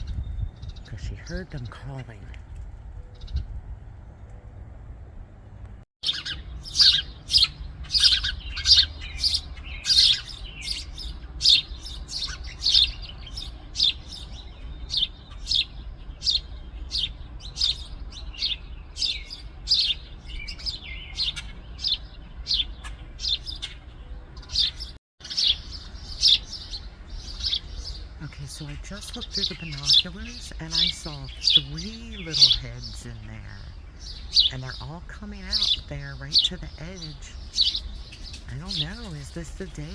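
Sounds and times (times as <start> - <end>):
sparrows chirping: 0.0 - 4.4, 6.0 - 39.9.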